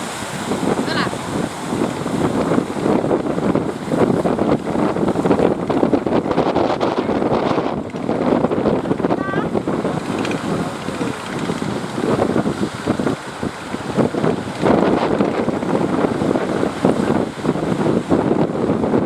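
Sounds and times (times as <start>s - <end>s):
waves rushing: 0.0s - 19.0s
wind buffeting microphone: 0.0s - 19.0s.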